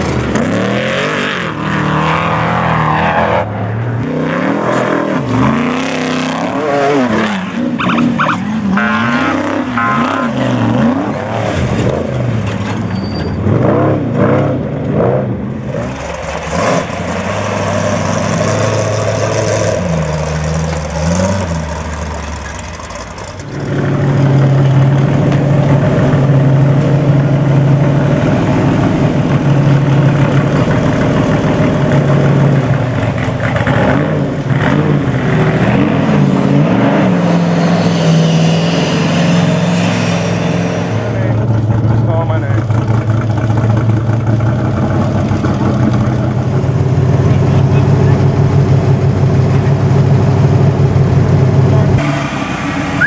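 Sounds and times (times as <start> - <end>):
loud engine running steady: 0.0 - 2.7, 8.4 - 53.0
engines revving: 0.0 - 53.0.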